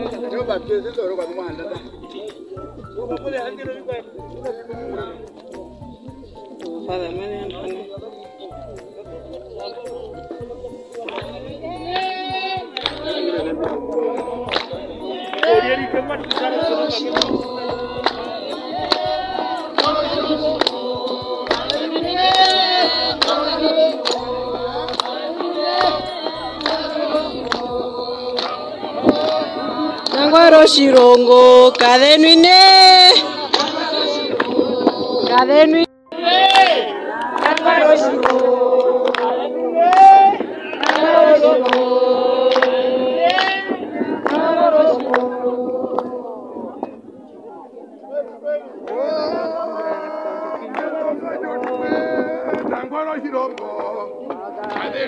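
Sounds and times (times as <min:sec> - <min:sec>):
group of voices singing: 0:00.0 - 0:03.2, 0:04.6 - 0:47.2, 0:48.8 - 0:55.0.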